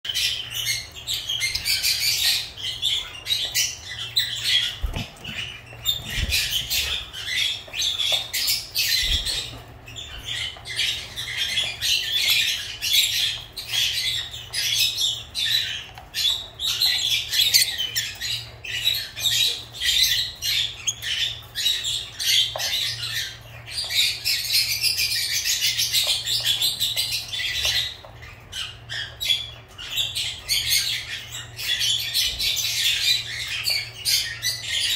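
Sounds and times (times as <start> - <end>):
lovebirds chattering: 0.1 - 34.9.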